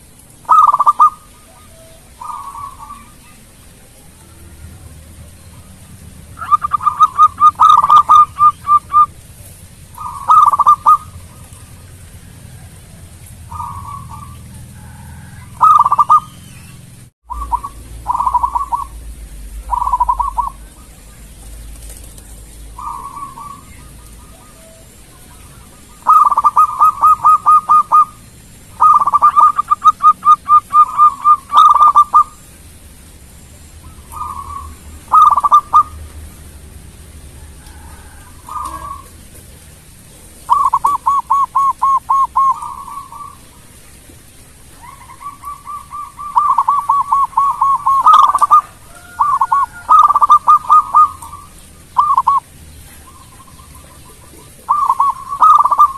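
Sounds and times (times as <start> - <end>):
dove cooing: 0.4 - 32.4, 33.8 - 36.1, 37.4 - 44.0, 44.7 - 55.9.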